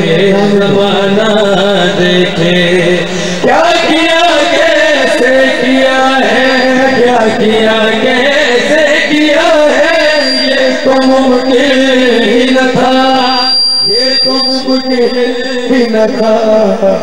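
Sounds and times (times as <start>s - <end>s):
two men singing unaccompanied: 0.0s - 17.0s.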